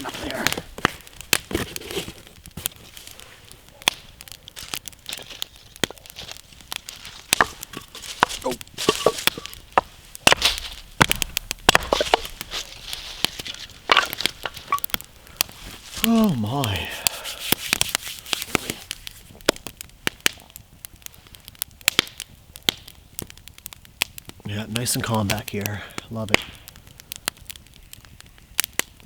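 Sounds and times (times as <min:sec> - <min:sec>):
campfire crackling: 0:00.0 - 0:29.0
sharp snaps and pops: 0:00.0 - 0:29.0.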